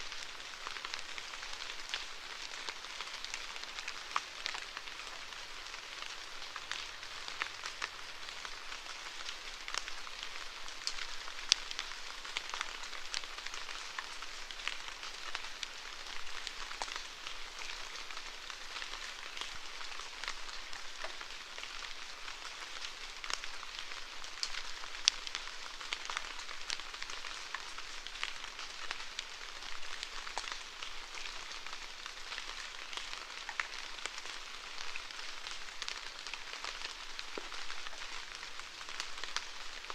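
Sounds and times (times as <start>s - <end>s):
steady rain hiss: 0.0s - 39.9s
raindrops ticking: 0.8s - 39.9s.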